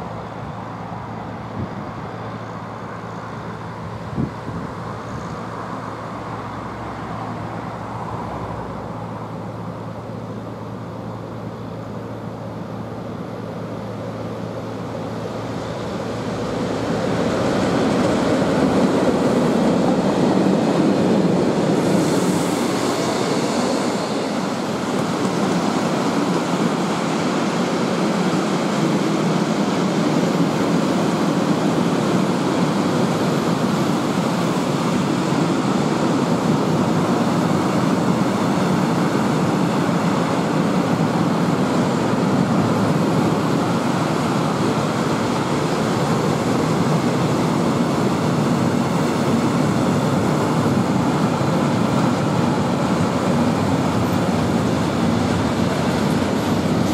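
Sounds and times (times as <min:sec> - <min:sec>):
locomotive humming: 0:00.0 - 0:56.9
train wheels rumbling on rails: 0:00.0 - 0:56.9.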